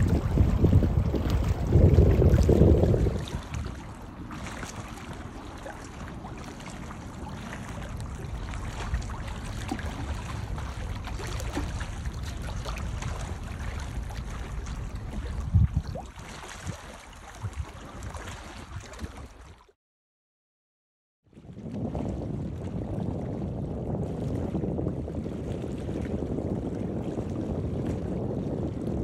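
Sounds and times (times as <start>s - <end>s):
wind rumble on microphone: 0.0s - 19.6s, 21.3s - 29.0s
water lapping against concrete blocks: 0.0s - 19.8s, 21.3s - 29.0s.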